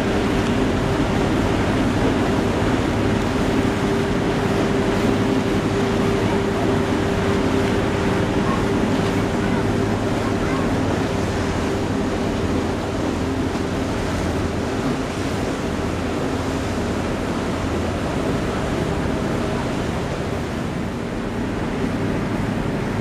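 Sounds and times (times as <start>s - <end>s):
low ship engine hum: 0.0s - 23.0s
water rushing: 0.0s - 23.0s.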